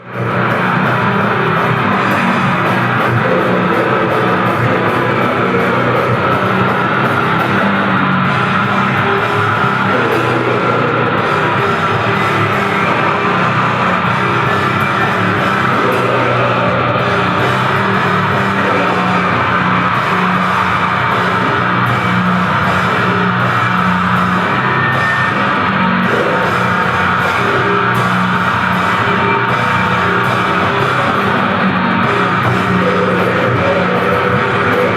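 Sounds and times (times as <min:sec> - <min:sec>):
grindcore band playing: 0:00.0 - 0:34.9.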